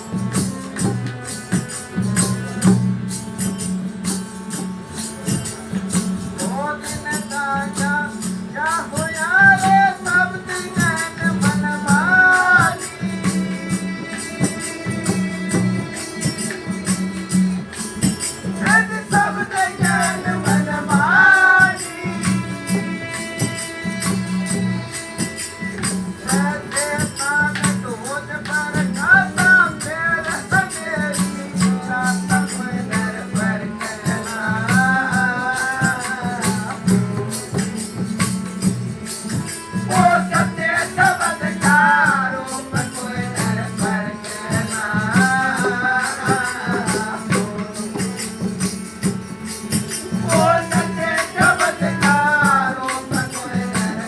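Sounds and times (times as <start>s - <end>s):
jingling rattling percussion: 0.0s - 54.0s
person singing devotional song: 0.0s - 54.0s.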